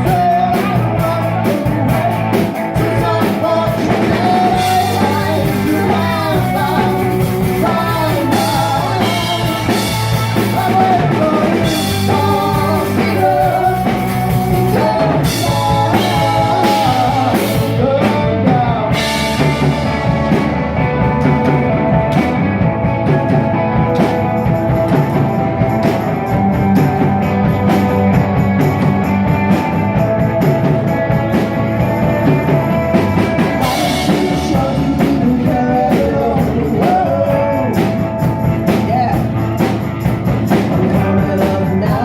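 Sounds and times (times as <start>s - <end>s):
rock band playing live: 0.0s - 42.0s.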